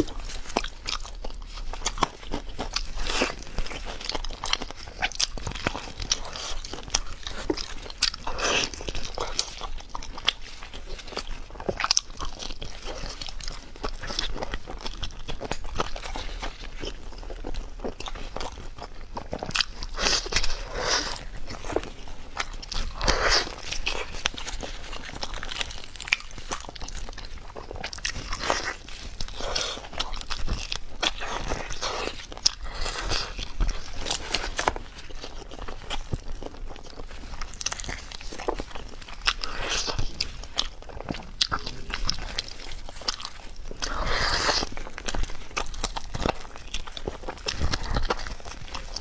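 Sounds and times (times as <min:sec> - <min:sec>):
person chewing crunchy food: 0:00.0 - 0:49.0.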